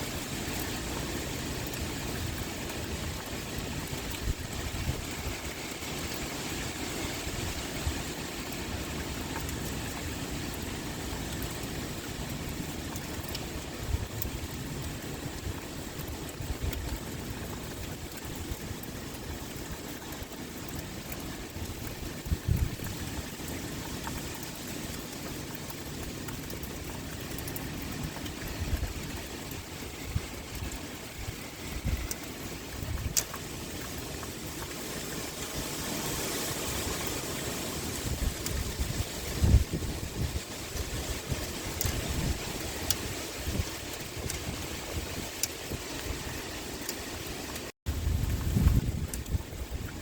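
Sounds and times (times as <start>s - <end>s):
heavy rain with wind: 0.0s - 50.0s.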